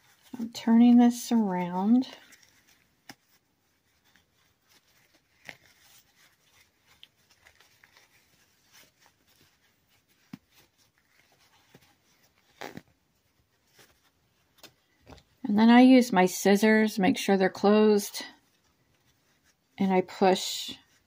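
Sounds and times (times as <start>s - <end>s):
fabric rustling: 0.0s - 15.8s, 17.9s - 21.0s.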